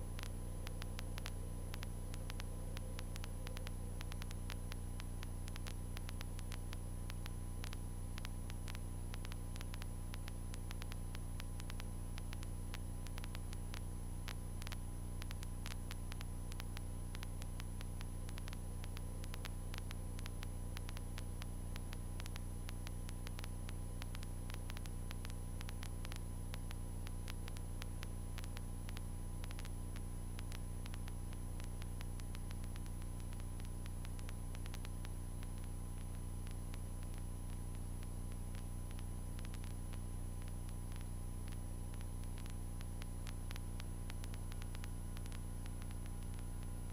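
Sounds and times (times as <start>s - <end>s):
static clicks: 0.0s - 46.9s.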